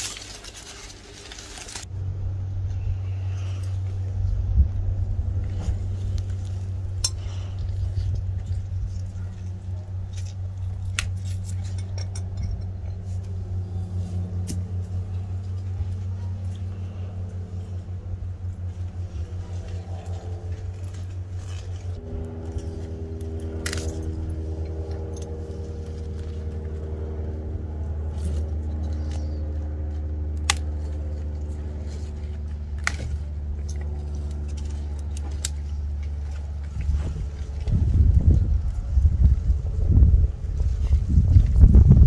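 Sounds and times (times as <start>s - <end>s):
low motor hum: 0.0s - 42.0s.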